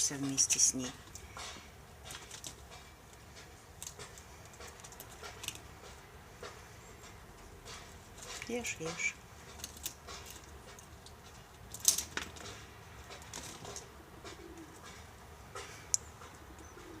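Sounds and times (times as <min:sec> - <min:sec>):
squirrel gnawing pine cone: 0:00.0 - 0:14.0.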